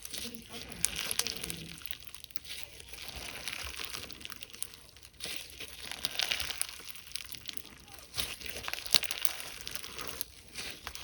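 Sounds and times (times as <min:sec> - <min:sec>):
slime crackling and popping: 0:00.0 - 0:11.0.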